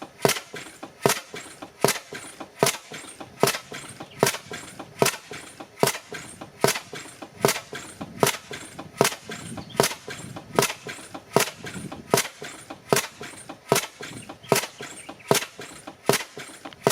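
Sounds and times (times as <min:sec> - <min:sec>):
engine clicks and knocks: 0:00.0 - 0:16.9
gas engine banging: 0:00.0 - 0:16.9.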